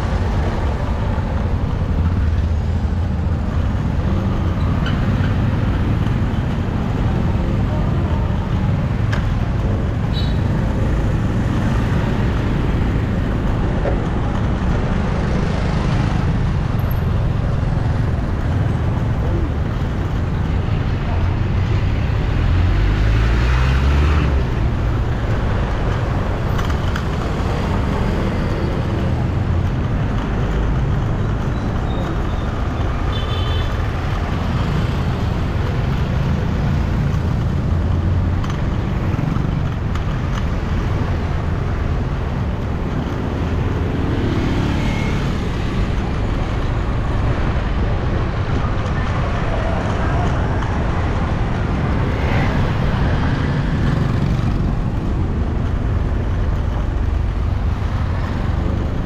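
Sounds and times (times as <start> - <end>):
traffic engines passing: 0.0 - 59.0.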